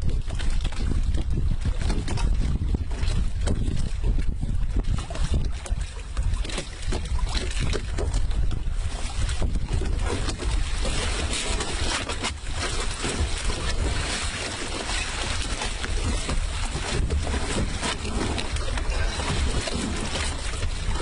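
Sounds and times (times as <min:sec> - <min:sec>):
water moving against boat: 0:00.0 - 0:21.0
wind buffeting microphone: 0:00.0 - 0:21.0.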